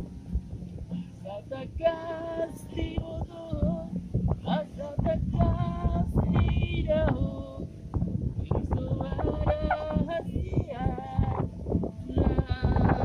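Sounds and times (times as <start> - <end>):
acoustic guitar: 0.0 - 13.0
wind on microphone: 0.0 - 13.0
woman singing: 1.2 - 7.7, 8.4 - 13.0.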